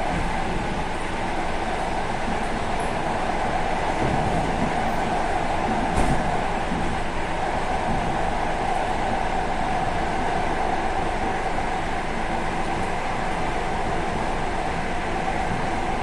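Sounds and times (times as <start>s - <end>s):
electric train whine: 0.0s - 16.0s
train wheels rumbling on rail: 0.0s - 16.0s.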